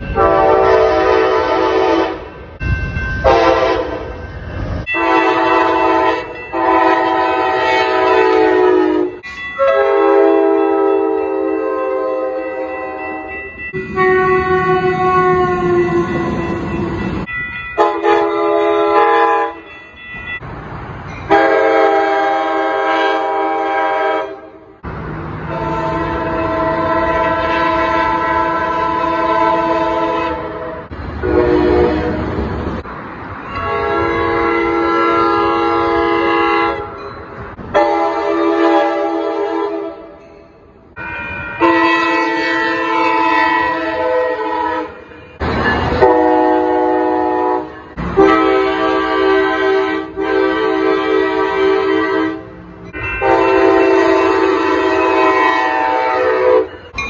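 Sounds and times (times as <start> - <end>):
train rumble: 0.0 - 57.0
locomotive air horns: 0.2 - 2.3, 3.2 - 4.1, 4.9 - 16.6, 17.8 - 19.7, 21.3 - 24.7, 25.5 - 32.4, 33.6 - 37.0, 37.7 - 40.2, 41.6 - 56.9.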